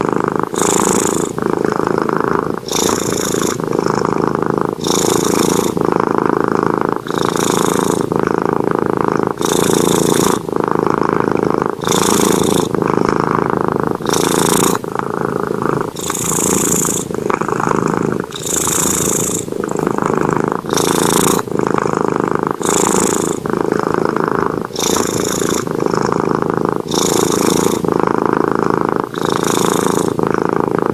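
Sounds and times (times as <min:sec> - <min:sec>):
cat snoring: 0:00.0 - 0:30.9.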